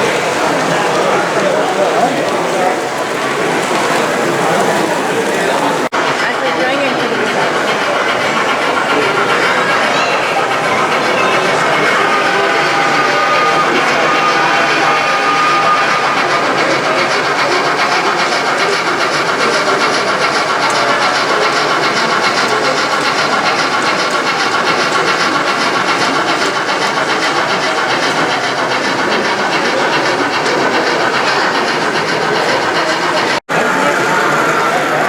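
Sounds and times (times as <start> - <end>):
model train wheels clicking: 0.0 - 35.0.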